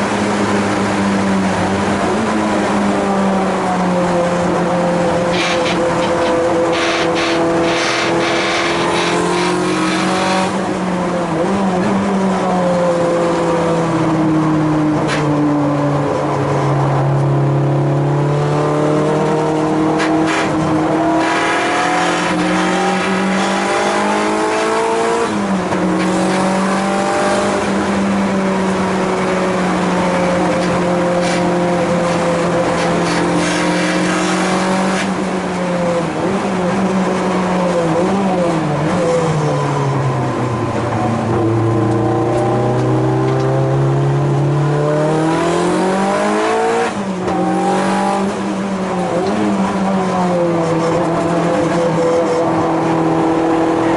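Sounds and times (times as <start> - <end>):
race car engine under load: 0.0 - 53.9.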